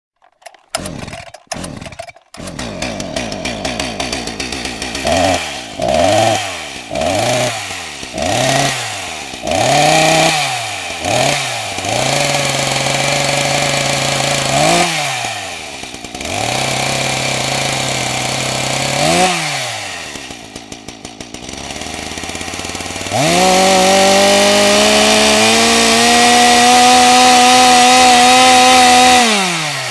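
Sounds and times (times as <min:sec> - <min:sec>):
chainsaw revving and idling: 0:00.2 - 0:29.9.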